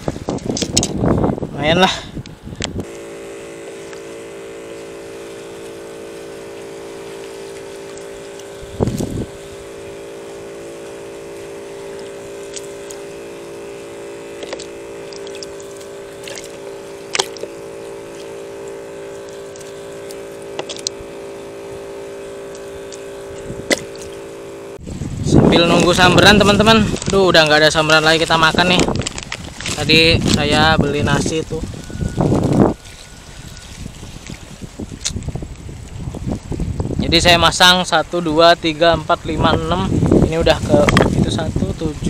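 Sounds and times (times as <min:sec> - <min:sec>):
engine hum: 0:00.0 - 0:42.0.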